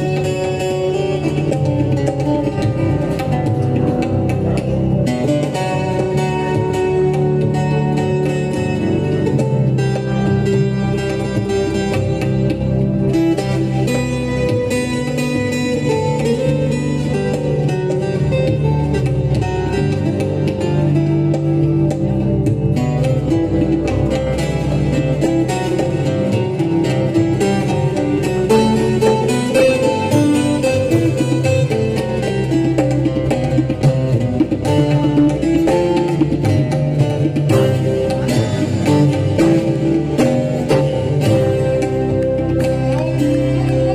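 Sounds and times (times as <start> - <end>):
keyboard: 0.0 - 43.9
plucked guitar: 0.0 - 43.9
tabla: 0.0 - 43.9.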